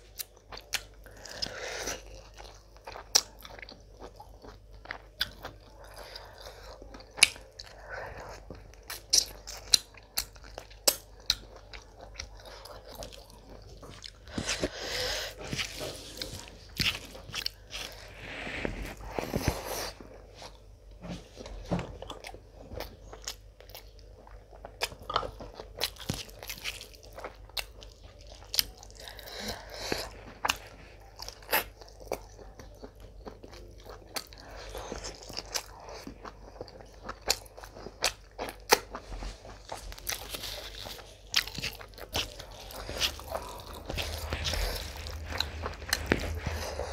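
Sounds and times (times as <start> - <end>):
person chewing: 0.0 - 20.6, 21.4 - 46.9.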